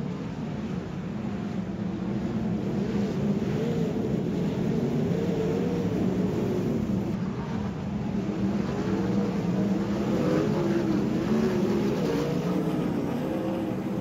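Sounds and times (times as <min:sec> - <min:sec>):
sprint car engines racing: 0:01.4 - 0:14.0.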